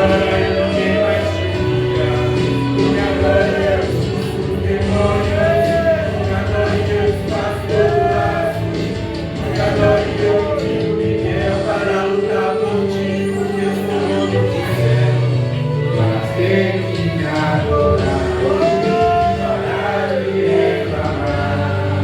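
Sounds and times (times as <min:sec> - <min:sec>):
gospel singing voices: 0:00.0 - 0:22.0
sustained instrumental chords: 0:00.0 - 0:22.0.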